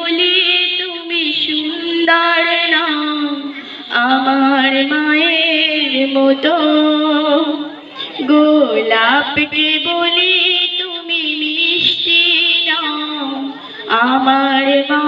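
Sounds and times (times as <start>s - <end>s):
woman singing over loudspeakers: 0.0s - 15.0s.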